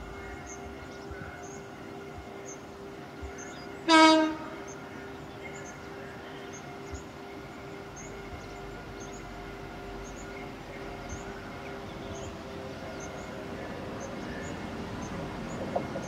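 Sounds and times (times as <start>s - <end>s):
train horn blast: 0.0s - 14.7s
train engine drone: 0.0s - 16.0s.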